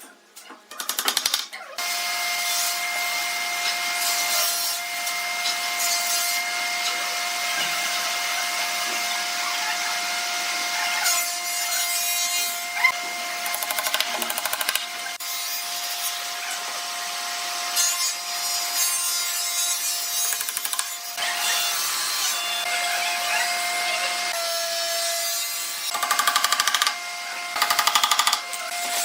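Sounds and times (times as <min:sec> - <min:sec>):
power tool working wood: 0:01.8 - 0:29.0.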